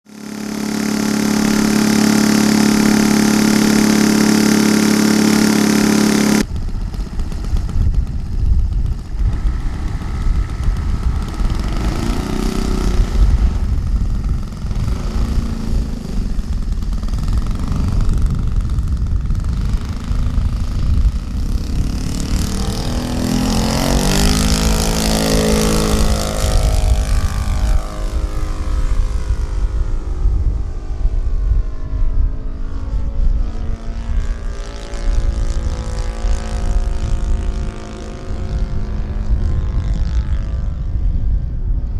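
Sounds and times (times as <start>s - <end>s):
model plane engine: 0.0s - 41.9s
wind rumble on microphone: 6.4s - 41.9s.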